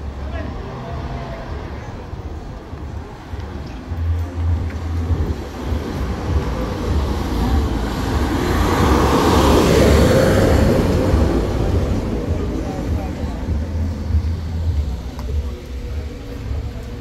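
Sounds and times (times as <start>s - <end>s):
steady low traffic rumble: 0.0s - 17.0s
motor vehicle passing: 0.5s - 16.2s.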